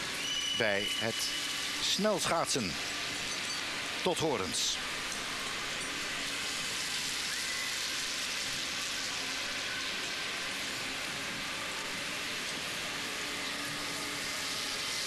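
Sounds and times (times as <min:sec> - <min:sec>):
steady broadcast hiss: 0:00.0 - 0:15.0.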